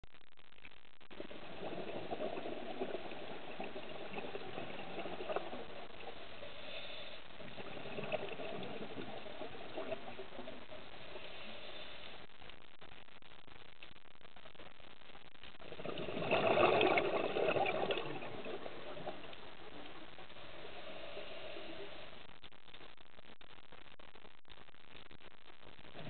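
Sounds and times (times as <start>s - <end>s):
underwater bubbling and crackling: 0.0s - 26.0s.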